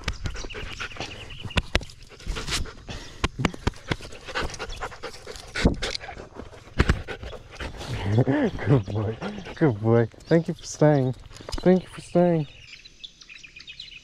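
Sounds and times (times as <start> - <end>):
dog panting: 0.0 - 11.3
paws bumping and fur rustling: 0.0 - 11.8.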